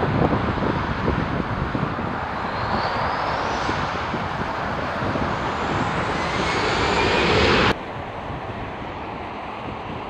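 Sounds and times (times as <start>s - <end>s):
road traffic passing: 0.0s - 9.6s
jet engine roar and whine: 0.0s - 10.0s.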